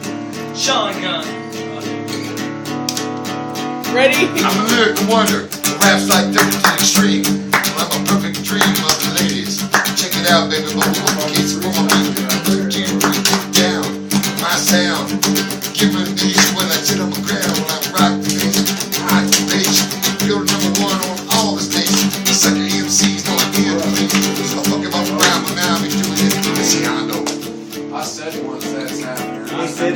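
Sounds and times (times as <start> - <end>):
guitar-led beat music: 0.0 - 29.9.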